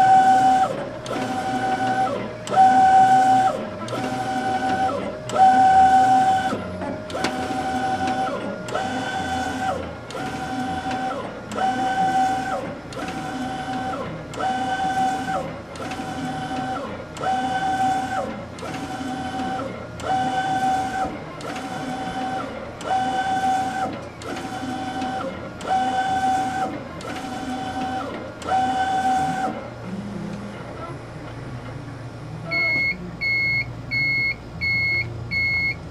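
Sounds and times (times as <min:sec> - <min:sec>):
printer carriage motor whine: 0:00.0 - 0:35.9.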